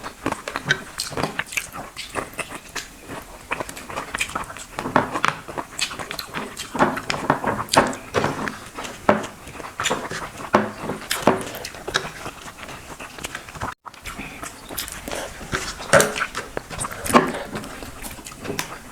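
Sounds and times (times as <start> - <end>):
wet mouth clicks: 0.0 - 7.2, 8.0 - 18.9
person chewing and smacking: 0.0 - 18.9.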